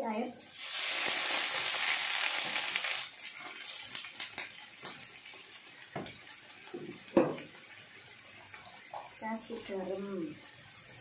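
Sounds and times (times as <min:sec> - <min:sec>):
water hissing in hot frying pan: 0:00.0 - 0:11.0
vegetables simmering: 0:00.1 - 0:11.0.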